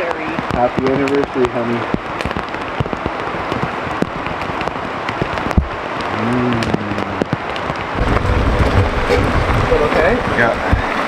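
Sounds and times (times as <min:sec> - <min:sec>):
rain on a tarp: 0:00.0 - 0:11.0.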